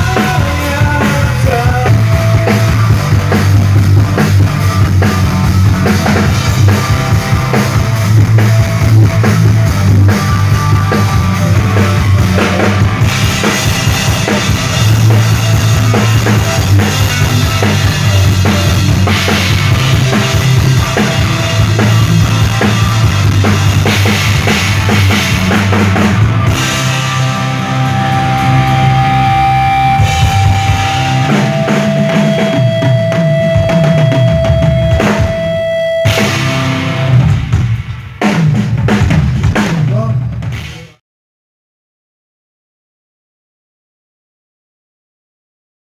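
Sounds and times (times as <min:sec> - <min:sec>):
bass line: 0:00.0 - 0:40.9
rock band through pa: 0:00.0 - 0:41.0.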